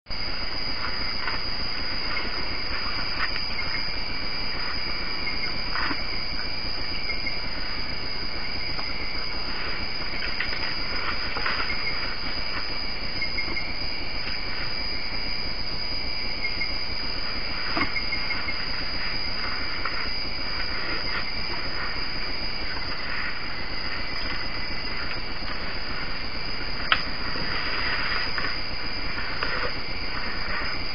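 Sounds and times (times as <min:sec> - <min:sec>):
night forest hiss: 0:00.2 - 0:30.9.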